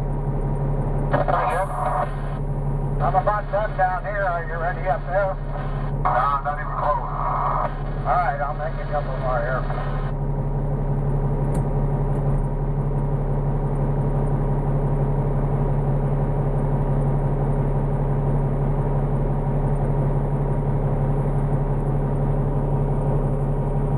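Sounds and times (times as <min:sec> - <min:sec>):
diesel truck engine droning: 0:00.0 - 0:23.9.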